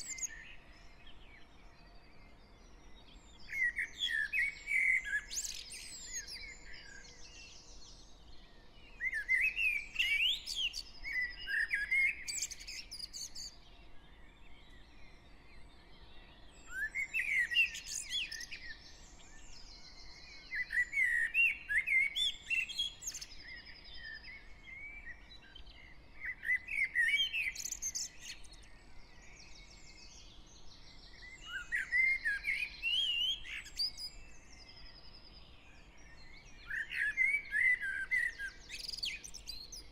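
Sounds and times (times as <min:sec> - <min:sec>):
faint high bird chirps: 0:00.0 - 0:39.9.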